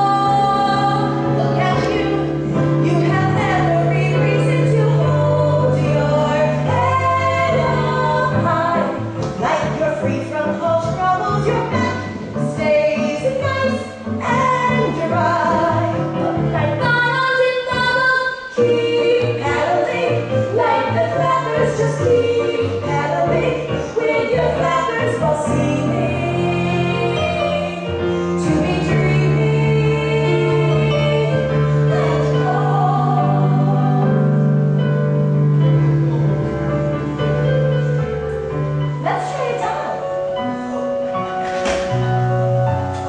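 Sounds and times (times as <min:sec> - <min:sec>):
instrumental accompaniment: 0:00.0 - 0:43.0.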